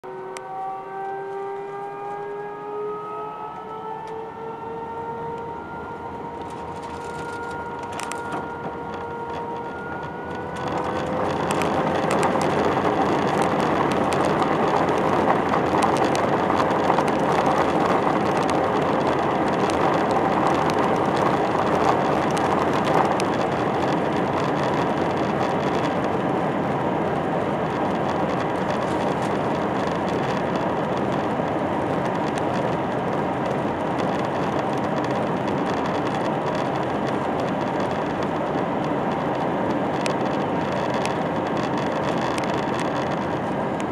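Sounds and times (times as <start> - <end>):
jet engine roar: 0.0 - 43.9
jet engines spooling up: 0.1 - 43.9.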